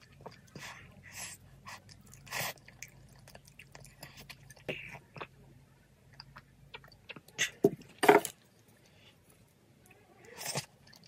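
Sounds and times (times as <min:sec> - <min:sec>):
wet chewing with mouth clicks: 0:00.0 - 0:07.9, 0:08.8 - 0:11.0.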